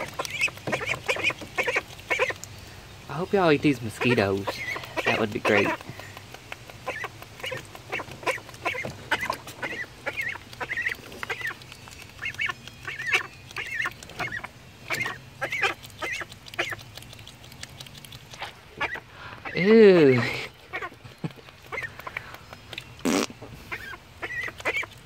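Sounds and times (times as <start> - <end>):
ducklings peeping: 0.0 - 25.0.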